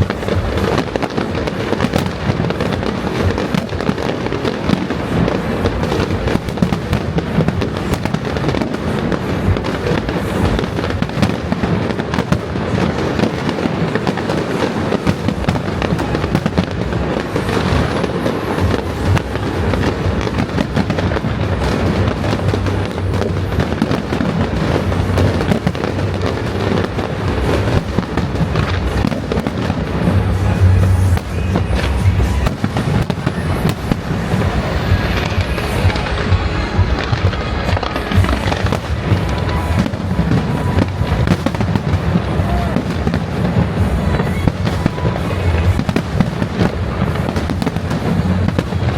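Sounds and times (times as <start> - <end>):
fireworks crackling and banging: 0.0 - 48.9
music: 0.0 - 48.9.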